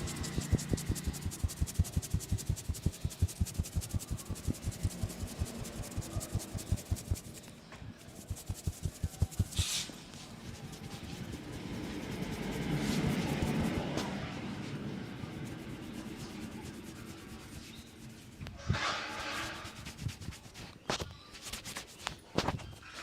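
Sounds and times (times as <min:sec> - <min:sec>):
short scratchy rush: 0:00.0 - 0:20.8
hands patting and rubbing scalp: 0:00.0 - 0:22.8.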